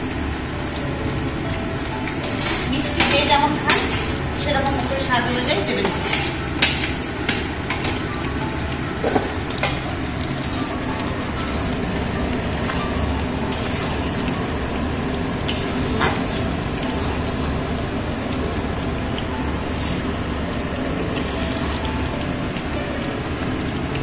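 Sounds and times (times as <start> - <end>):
paste sizzling and bubbling in pan: 0.0 - 24.0.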